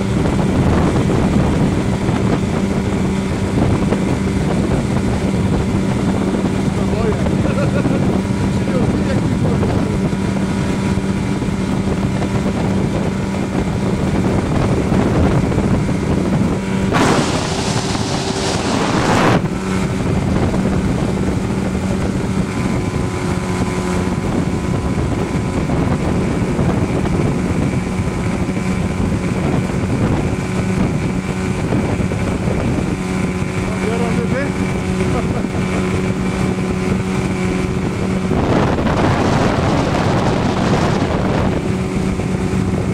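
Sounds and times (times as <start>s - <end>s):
outboard motor at high throttle: 0.0s - 42.9s
wind and spray rushing: 0.0s - 42.9s.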